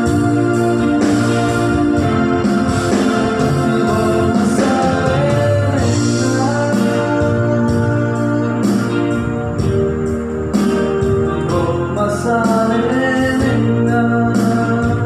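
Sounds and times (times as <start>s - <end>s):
person singing: 0.0s - 10.3s, 11.0s - 15.0s
electronic keyboard organ chords: 0.0s - 15.0s.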